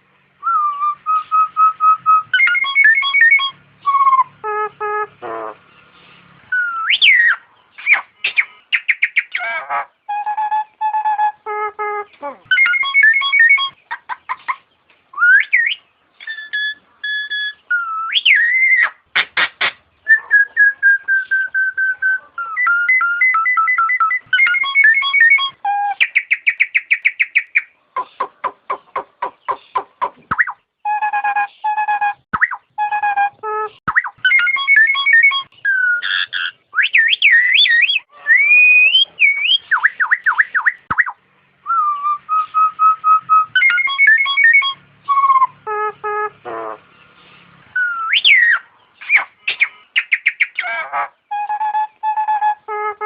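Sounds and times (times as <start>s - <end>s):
myna whistling calls: 0.4s - 53.0s.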